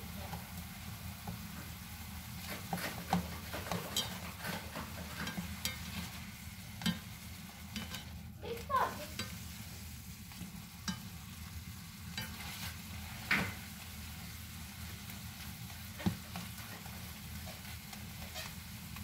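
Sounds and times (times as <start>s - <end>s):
mushrooms sizzling in butter: 0.0s - 19.0s
spatula scraping pan: 1.2s - 19.0s.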